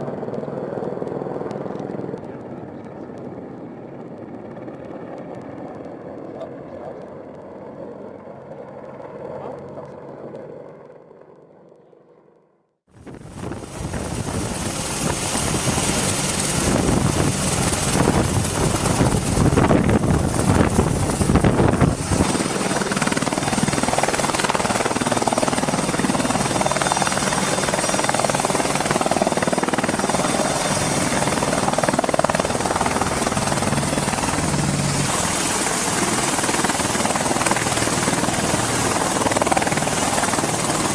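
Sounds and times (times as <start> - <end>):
helicopter rotor and turbine: 0.0 - 40.9.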